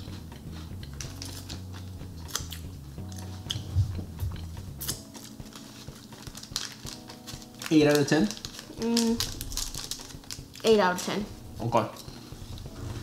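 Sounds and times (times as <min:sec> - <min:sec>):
chewing and crunching wafer: 0:00.0 - 0:10.8
soft background music: 0:00.0 - 0:13.0.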